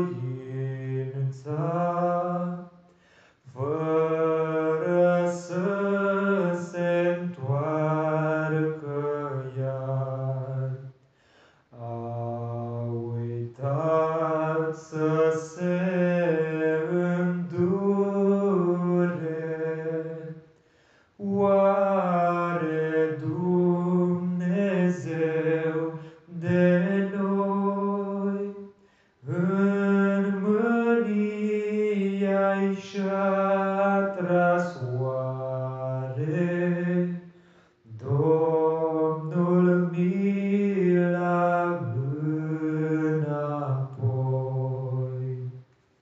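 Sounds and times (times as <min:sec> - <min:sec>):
slow hymn singing: 0:00.0 - 0:46.0.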